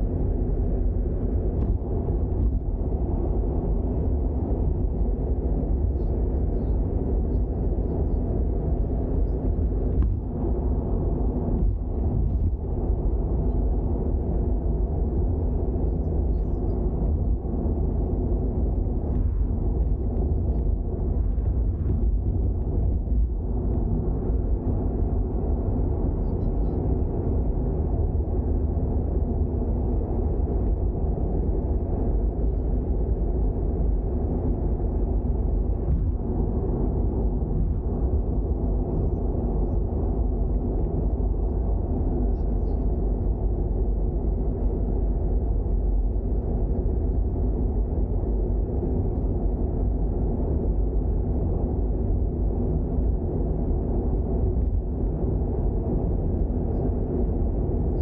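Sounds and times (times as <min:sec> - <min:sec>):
engine and road noise rumble: 0:00.0 - 0:58.0.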